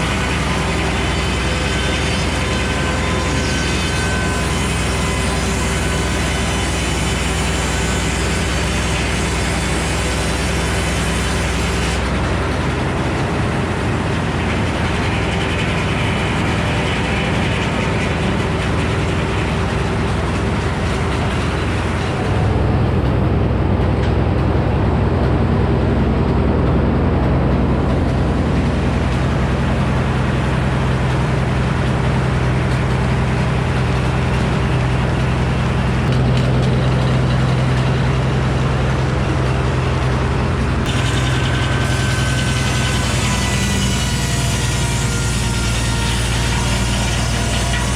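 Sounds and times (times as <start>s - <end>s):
sawmill engine humming: 0.0s - 47.9s.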